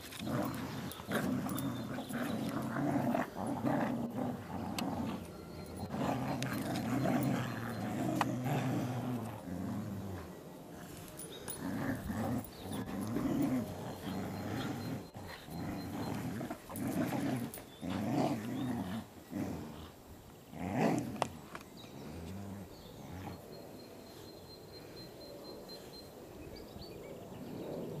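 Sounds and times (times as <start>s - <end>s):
dogs growling in play: 0.0s - 24.2s.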